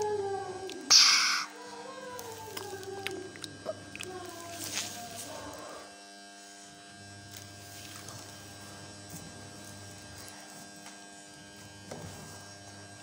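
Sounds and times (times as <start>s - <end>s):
buzzy electrical hum: 0.0s - 13.0s.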